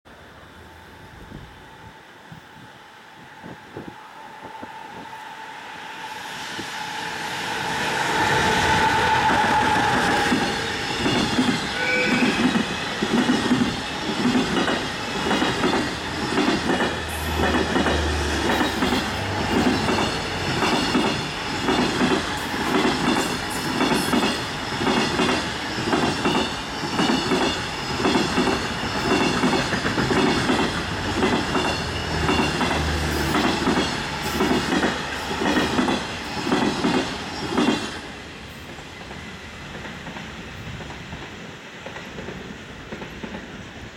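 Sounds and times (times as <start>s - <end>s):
train wheels clacking on rails: 4.5s - 43.9s.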